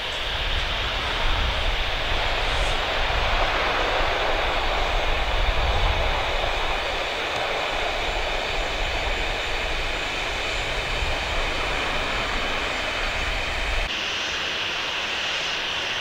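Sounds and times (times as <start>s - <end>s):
jet engine roar: 0.0s - 16.0s
thinner jet engine sound: 0.0s - 16.0s.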